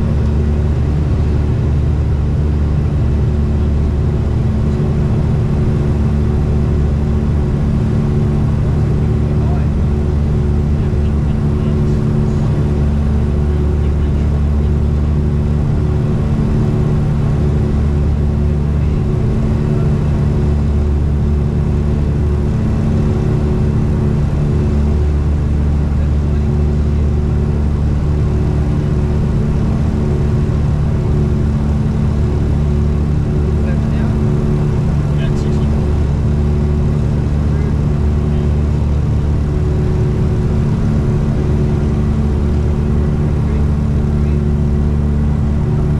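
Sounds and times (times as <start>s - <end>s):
aircraft cabin engine drone: 0.0s - 45.9s
deep engine throb: 0.0s - 45.9s.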